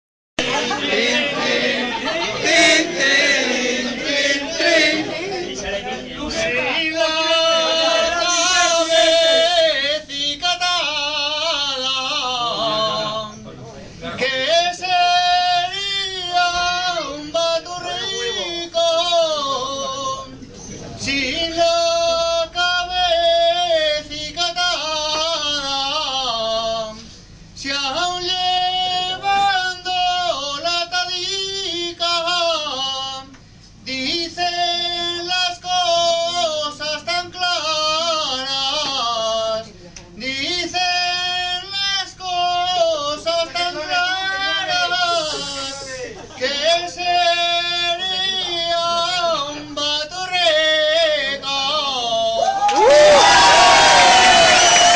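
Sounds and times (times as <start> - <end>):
man singing unaccompanied: 0.4 - 13.4, 14.1 - 20.4, 21.0 - 27.0, 27.6 - 52.5.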